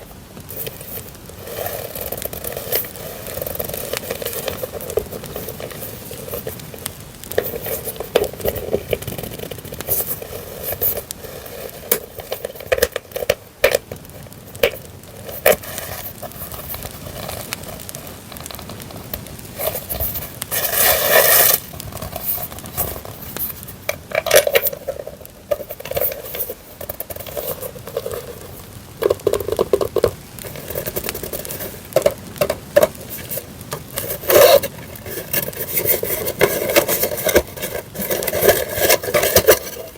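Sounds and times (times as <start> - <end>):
campfire crackling: 0.0 - 39.9
paper rustling and crinkling: 0.0 - 39.9.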